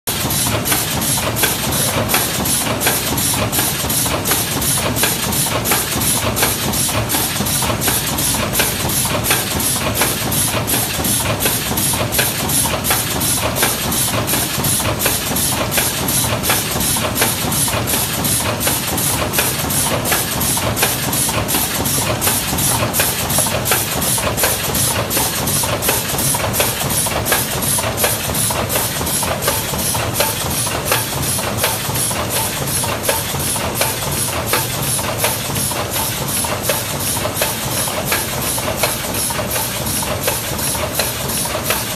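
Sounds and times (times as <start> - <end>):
filling machine humming: 0.1 - 41.9
regular machine clicks: 0.1 - 41.9.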